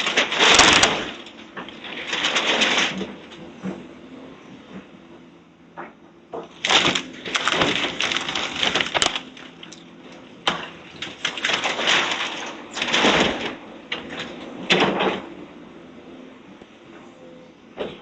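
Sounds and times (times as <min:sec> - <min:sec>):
debris crunching and clattering: 0:00.0 - 0:15.6
faint engine hum: 0:00.0 - 0:18.0.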